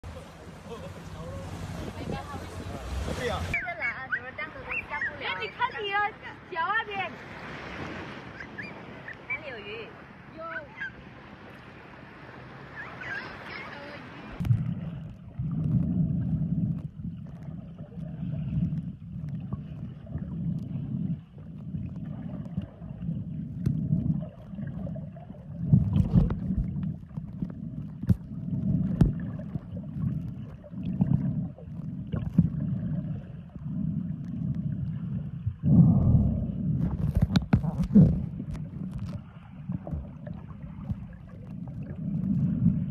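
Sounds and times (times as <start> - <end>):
faint surface water sounds: 0.0 - 42.9
muffled underwater water rushing: 0.0 - 42.9.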